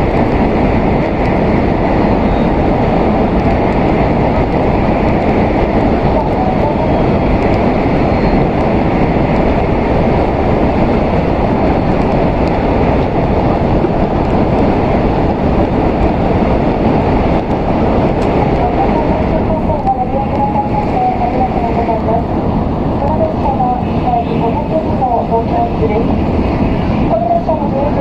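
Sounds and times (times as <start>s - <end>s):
train running noise inside cabin: 0.0s - 28.0s.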